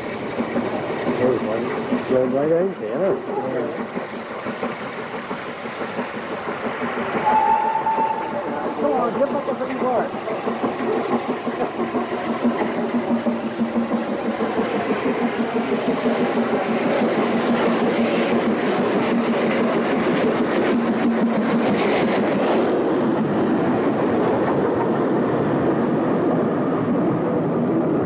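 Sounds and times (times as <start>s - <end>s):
steam locomotive exhaust beats: 0.0s - 28.0s
train wheels clattering on rails: 0.0s - 28.0s.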